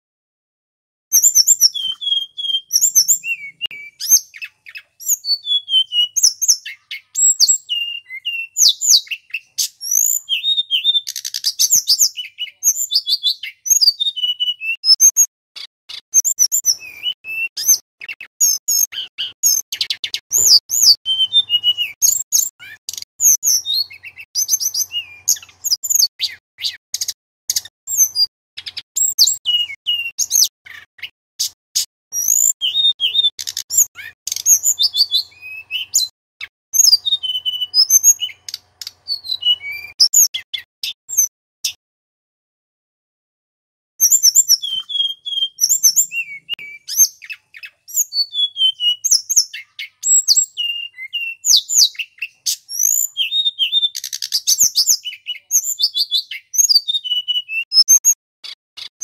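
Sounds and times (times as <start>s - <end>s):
bird singing whistled phrases: 1.1s - 41.8s, 44.0s - 58.9s.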